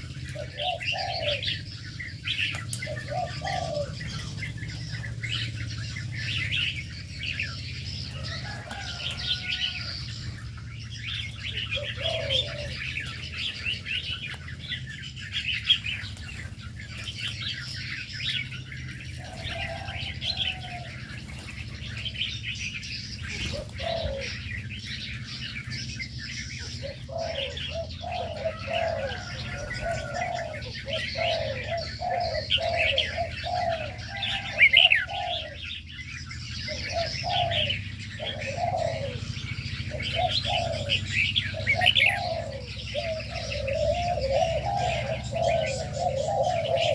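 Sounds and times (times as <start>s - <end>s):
doves cooing: 0.0s - 46.9s
small birds chirping: 0.0s - 46.9s.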